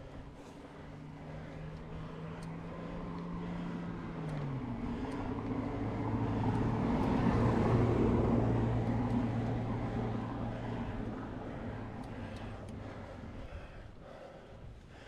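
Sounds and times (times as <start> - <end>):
car engine approaching: 0.0 - 15.0.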